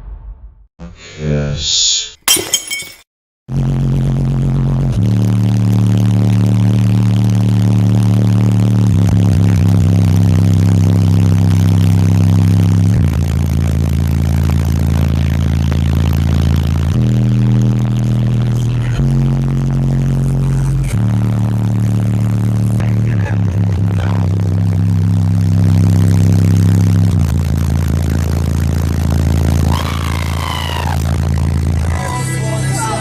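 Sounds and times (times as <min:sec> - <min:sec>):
loud bass-heavy music from subwoofers: 0:03.5 - 0:33.0.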